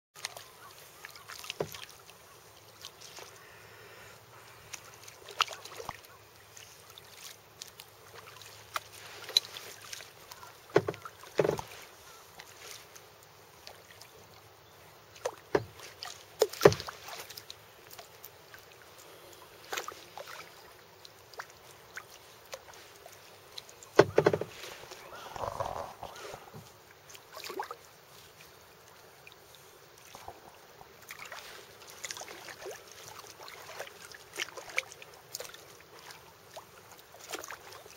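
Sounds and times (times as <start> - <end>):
paddle splashing in water: 0.2 - 37.9.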